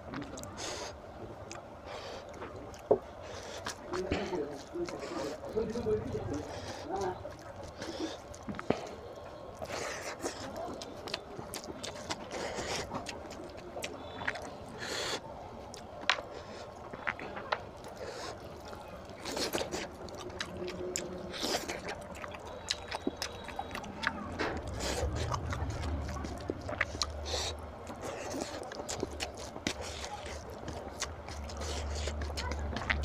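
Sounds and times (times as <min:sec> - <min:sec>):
man chewing with wet smacking: 0:00.0 - 0:33.0
fingers squelching food: 0:00.1 - 0:33.0.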